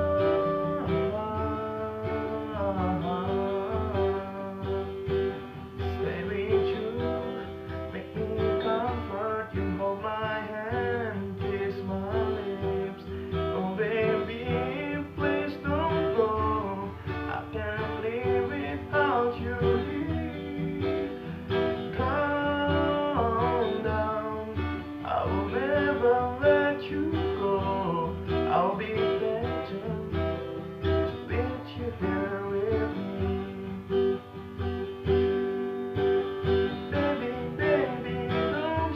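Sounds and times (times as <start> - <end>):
person singing: 0.0 - 34.3, 36.6 - 38.9
guitar music: 0.0 - 38.9.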